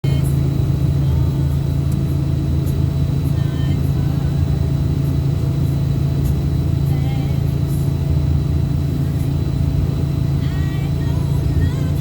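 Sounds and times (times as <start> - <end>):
road rumble: 0.0 - 12.0
vehicle engine hum: 0.0 - 12.0.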